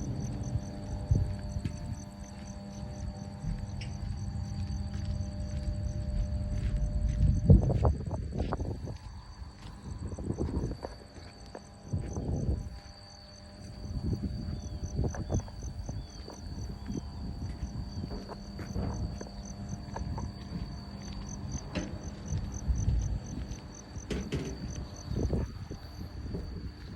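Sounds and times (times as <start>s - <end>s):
wind buffeting microphone: 0.0s - 13.0s, 13.6s - 26.9s
high insect trill: 0.0s - 26.9s
insects chirping: 0.0s - 26.9s.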